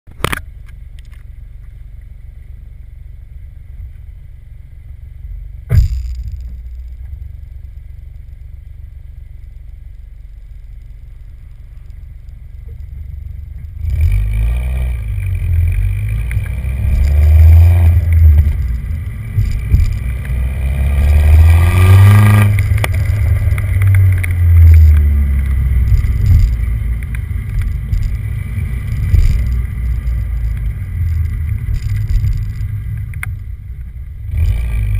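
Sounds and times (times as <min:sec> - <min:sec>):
car exhaust idling: 0:00.1 - 0:34.9
exhaust thump: 0:03.5 - 0:14.2, 0:14.9 - 0:34.4
car accelerating: 0:05.5 - 0:33.5, 0:34.2 - 0:34.9.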